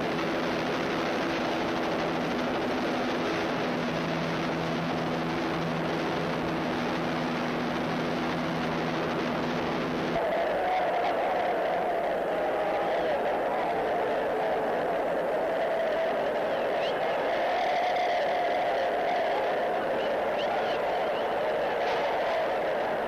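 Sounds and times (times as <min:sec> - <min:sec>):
racing car engines steady note: 0:00.0 - 0:23.0
wide rushing noise: 0:00.0 - 0:23.0.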